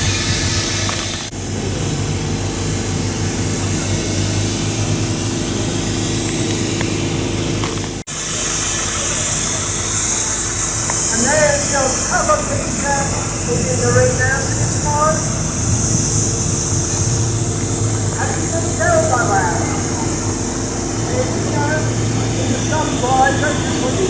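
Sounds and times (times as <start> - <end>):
engine running steadily: 0.0 - 24.0
loud hiss: 0.0 - 24.0.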